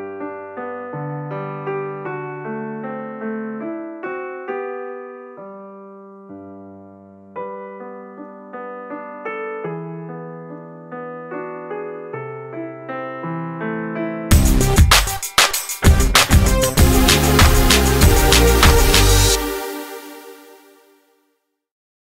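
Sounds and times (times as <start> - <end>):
gentle piano music: 0.0 - 20.9.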